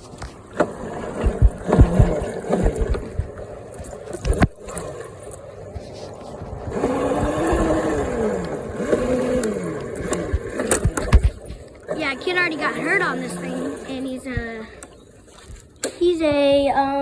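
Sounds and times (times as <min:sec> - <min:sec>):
rough rumble: 0:00.0 - 0:15.3
electric motor whining: 0:00.0 - 0:15.8.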